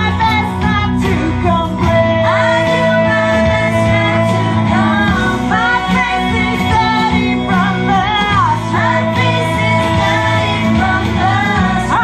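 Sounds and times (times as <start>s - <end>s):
amplified music accompaniment: 0.0s - 12.0s
person singing through microphone: 0.0s - 12.0s.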